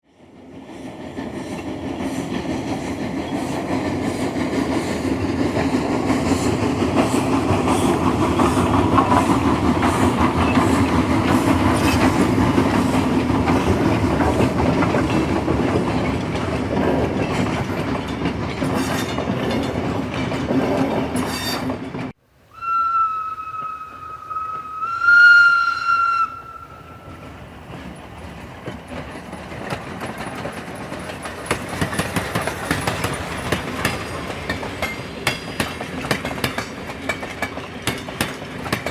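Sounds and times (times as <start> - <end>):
train rumbling over rails: 0.0 - 38.9.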